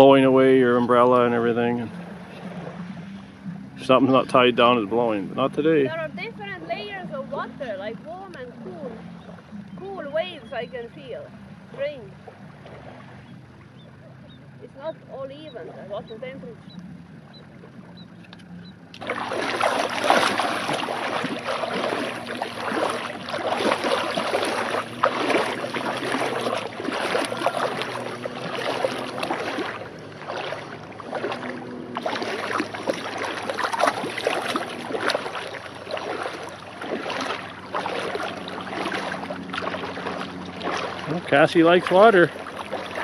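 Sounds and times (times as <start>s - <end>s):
water splashing: 0.0s - 43.0s.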